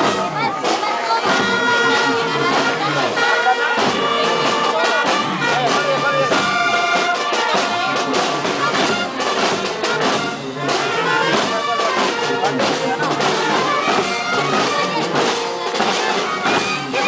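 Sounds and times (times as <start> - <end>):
brass notes: 0.0 - 17.0
drum strokes: 0.0 - 17.0.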